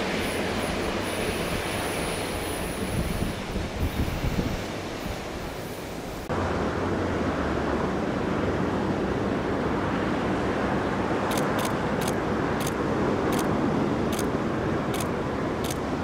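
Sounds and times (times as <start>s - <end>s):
passing train: 0.0s - 16.0s
wind: 0.0s - 16.0s.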